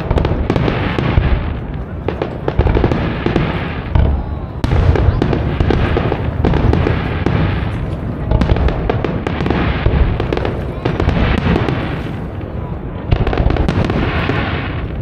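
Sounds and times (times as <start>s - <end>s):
low booms: 0.0s - 15.0s.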